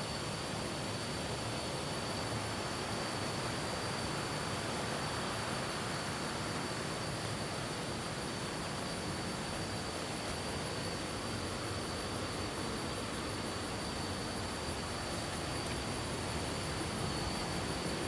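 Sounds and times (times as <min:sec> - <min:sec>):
insect droning: 0:00.0 - 0:18.0.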